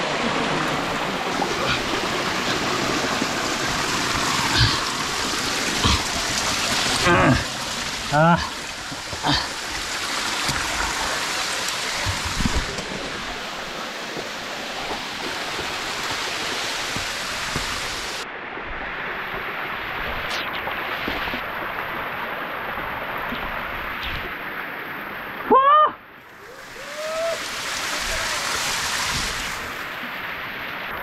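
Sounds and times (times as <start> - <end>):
waterfall rushing: 0.0 - 25.6, 26.2 - 31.0.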